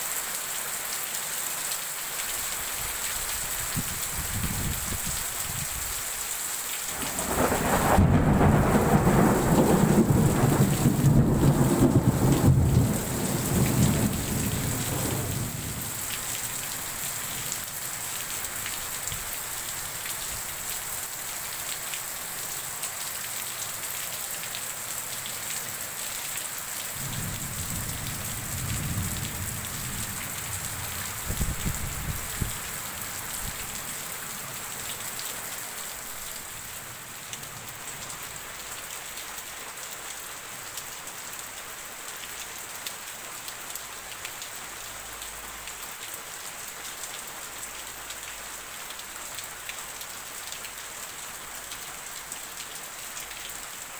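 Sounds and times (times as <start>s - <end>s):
rain falling on roofs: 0.0s - 53.9s.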